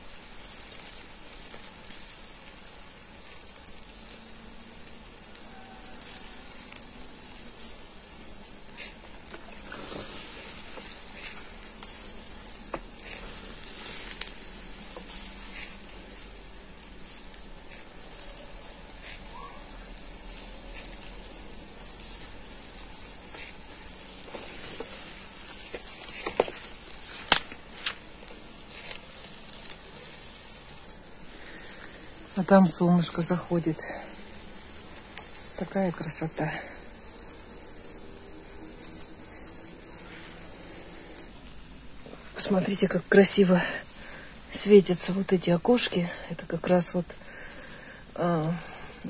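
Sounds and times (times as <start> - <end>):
crackles and pops: 0.0 - 49.0
meat sizzling over charcoal: 0.0 - 49.0.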